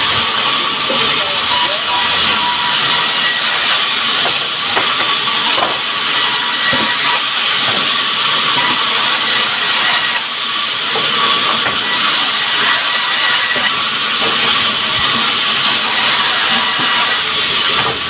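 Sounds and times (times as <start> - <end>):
band saw cutting log: 0.0 - 18.0.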